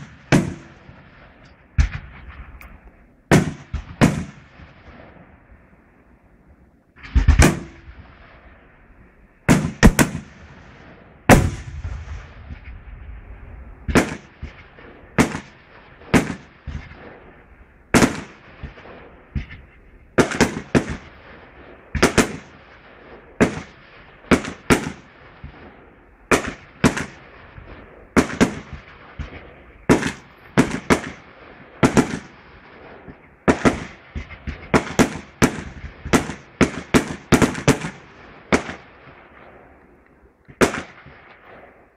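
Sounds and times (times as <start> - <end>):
fireworks bangs with echo: 0.0 - 5.7, 6.9 - 39.8, 40.5 - 41.9.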